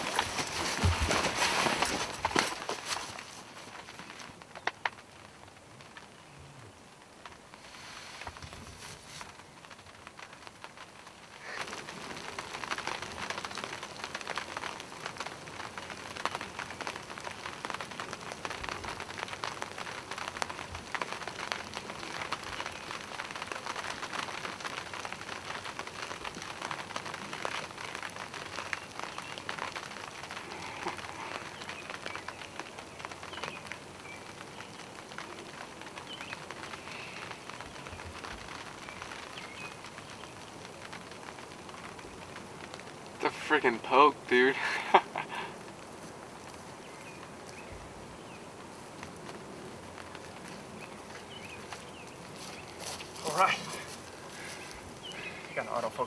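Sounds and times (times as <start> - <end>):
light rain pattering: 0.0 - 56.0.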